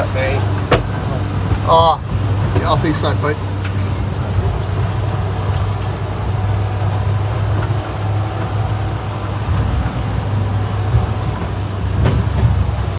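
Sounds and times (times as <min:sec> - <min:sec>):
boat engine humming: 0:00.0 - 0:12.9
wind and water hiss: 0:00.0 - 0:12.9.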